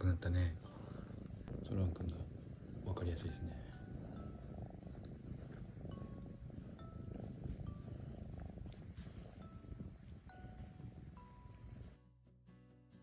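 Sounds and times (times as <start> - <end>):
cat purring: 0.0 - 12.1.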